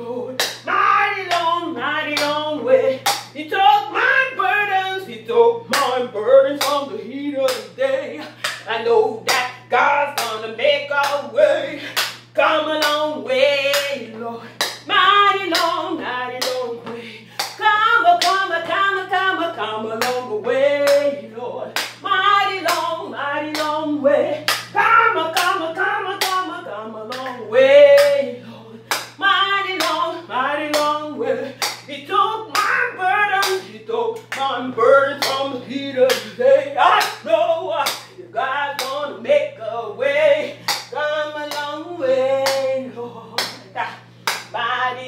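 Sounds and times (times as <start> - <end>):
woman singing gospel: 0.0 - 45.0.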